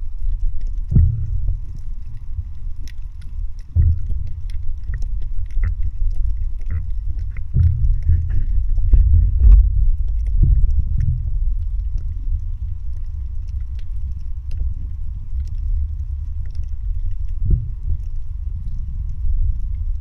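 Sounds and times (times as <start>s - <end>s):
muffled underwater rumble: 0.0s - 20.0s
sharp underwater clicks and crackles: 0.0s - 20.0s.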